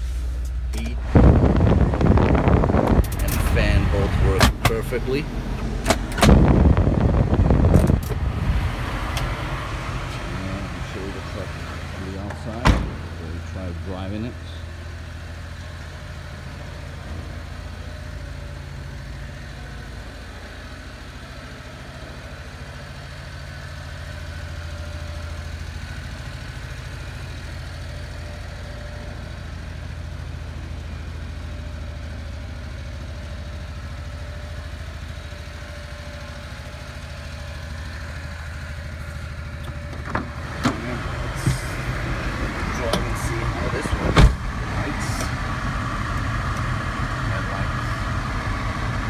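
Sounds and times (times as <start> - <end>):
small truck engine idling: 9.0 - 49.0.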